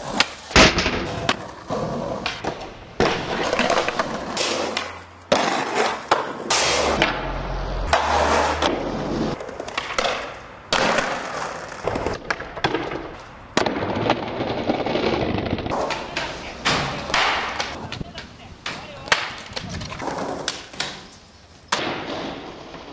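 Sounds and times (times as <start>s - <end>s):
skateboard pops and landings: 0.0s - 7.3s, 7.9s - 17.8s, 21.7s - 22.9s
skateboard wheels rolling: 0.0s - 22.9s.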